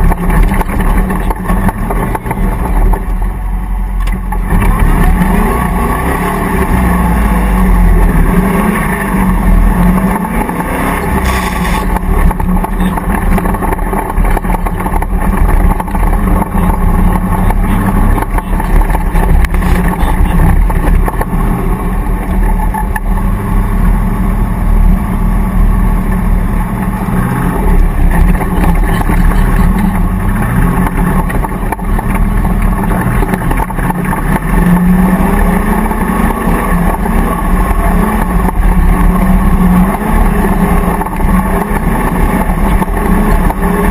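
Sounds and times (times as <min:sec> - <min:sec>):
engine revving over rough ground: 0:00.0 - 0:43.9.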